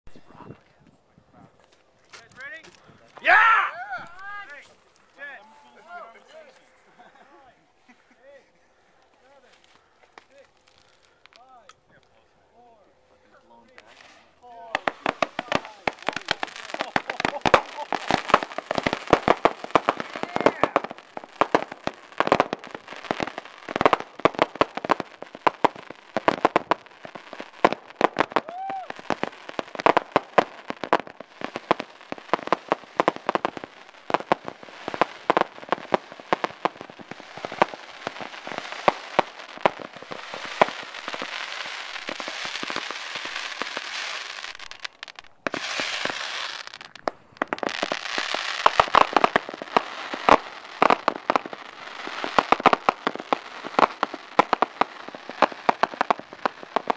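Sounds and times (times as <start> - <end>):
crackling hiss of fireworks: 0.1 - 56.9
fireworks popping and banging: 9.2 - 12.2, 13.6 - 56.9.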